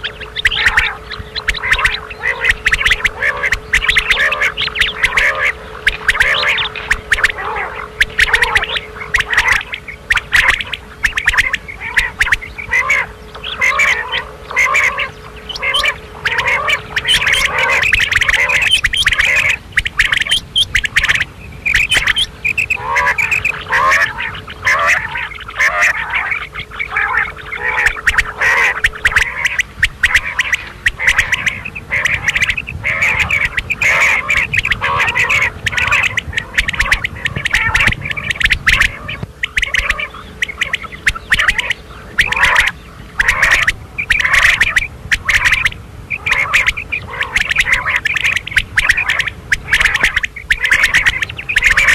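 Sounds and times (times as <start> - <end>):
faint steady hum: 0.0 - 51.9
quails chirping and squawking: 0.0 - 51.9.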